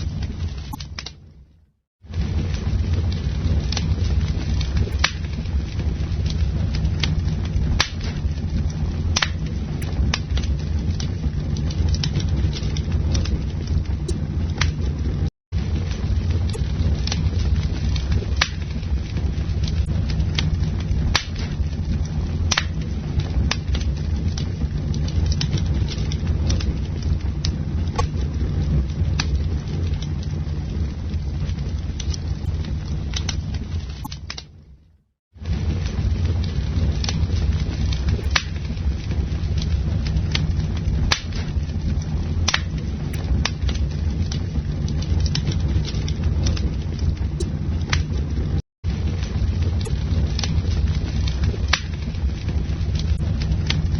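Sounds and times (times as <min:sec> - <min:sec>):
burning wood crackling and popping: 0:00.0 - 0:53.9
campfire flames roaring: 0:00.0 - 0:53.9.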